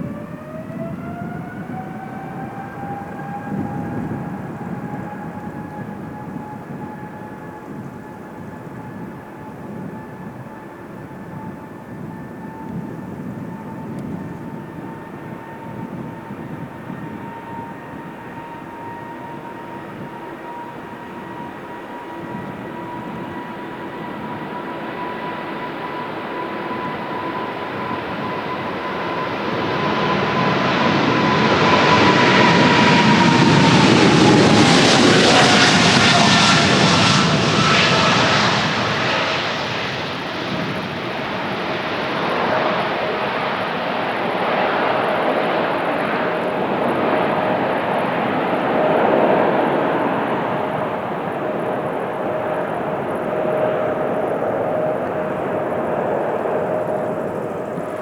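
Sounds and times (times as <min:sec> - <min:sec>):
jet engines whining and roaring: 0:00.0 - 0:58.0.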